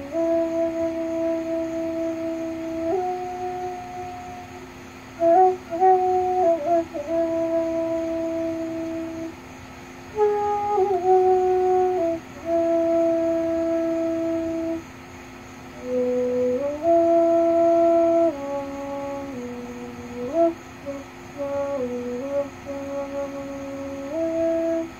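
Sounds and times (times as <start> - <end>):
bamboo flute playing: 0.0 - 9.3, 10.1 - 14.8, 15.8 - 24.9
cicadas buzzing: 0.0 - 24.9.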